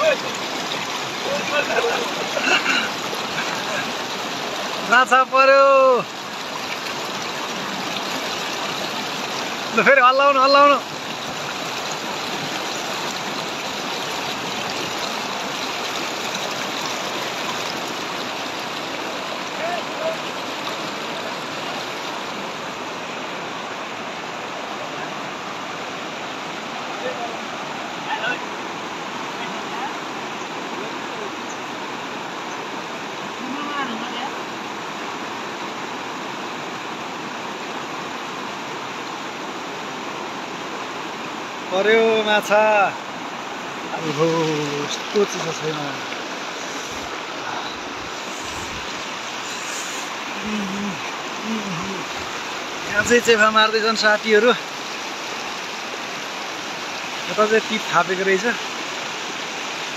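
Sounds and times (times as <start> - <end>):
river rushing through rapids: 0.0 - 59.9.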